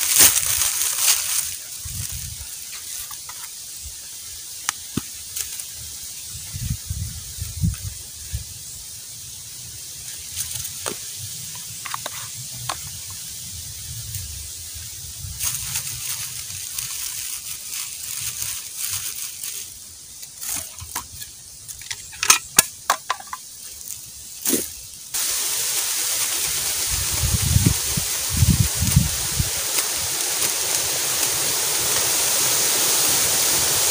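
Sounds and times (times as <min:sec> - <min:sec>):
dry leaves rustling and crackling: 0:00.0 - 0:08.6, 0:09.6 - 0:33.9
steady hiss: 0:00.0 - 0:33.9.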